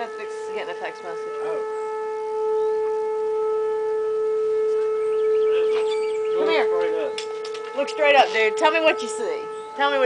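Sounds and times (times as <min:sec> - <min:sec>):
warning siren steady tone: 0:00.0 - 0:10.0.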